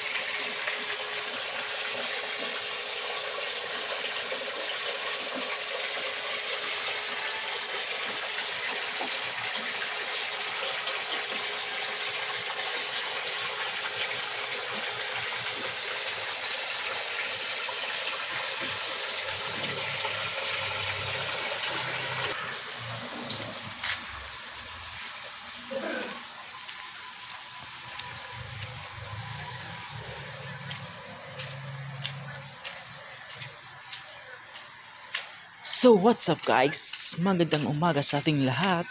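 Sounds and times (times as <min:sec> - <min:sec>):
water splashing into a pond: 0:00.0 - 0:38.9.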